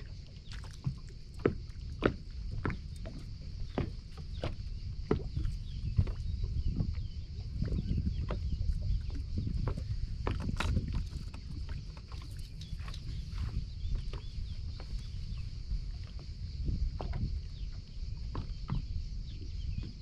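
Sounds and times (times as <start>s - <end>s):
waves lapping against boat hull: 0.0s - 20.0s
wind rumble on microphone: 0.0s - 20.0s.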